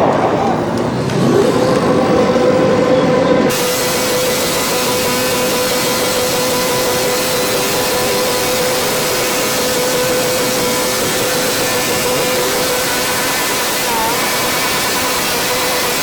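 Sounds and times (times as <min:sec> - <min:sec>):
loud rushing noise: 0:00.0 - 0:16.0.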